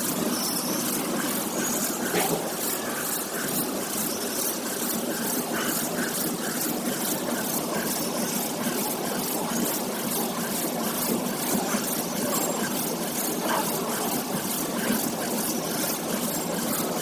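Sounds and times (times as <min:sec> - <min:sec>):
conveyor motors humming: 0:00.0 - 0:17.0.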